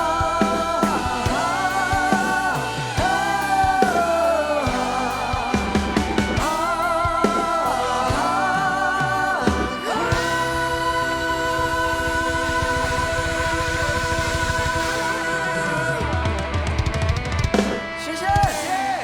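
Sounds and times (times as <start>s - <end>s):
pop music with vibrato melody: 0.0s - 19.0s.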